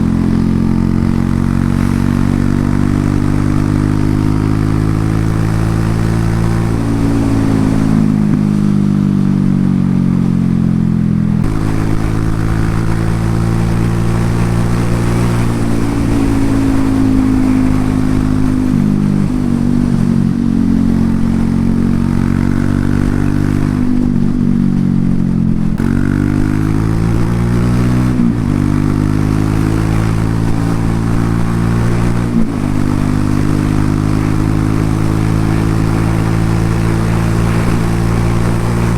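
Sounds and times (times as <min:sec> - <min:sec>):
motorcycle exhaust: 0:00.0 - 0:38.9.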